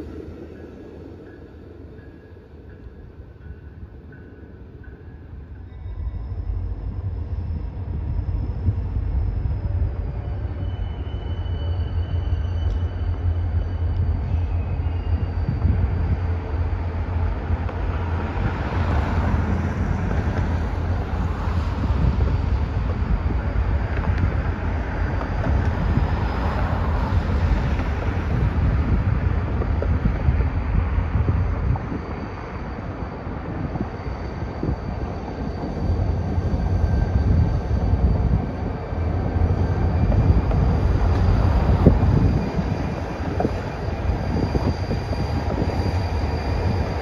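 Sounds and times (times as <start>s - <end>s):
diesel locomotives rumbling: 0.0s - 47.0s.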